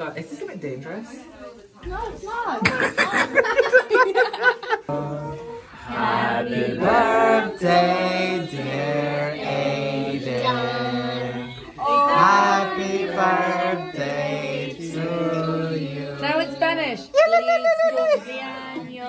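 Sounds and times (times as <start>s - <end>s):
group of people singing: 2.6s - 19.0s.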